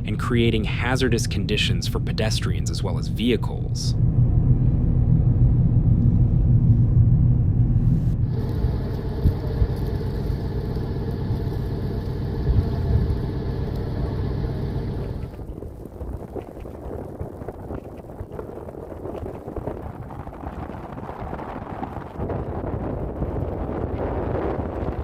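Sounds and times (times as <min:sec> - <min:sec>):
engine running low rumble: 0:00.0 - 0:25.0.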